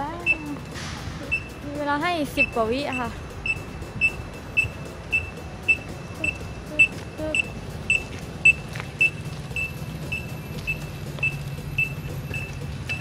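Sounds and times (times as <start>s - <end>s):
crossing signal beeping: 0.0s - 13.0s
low hum of traffic: 0.0s - 13.0s.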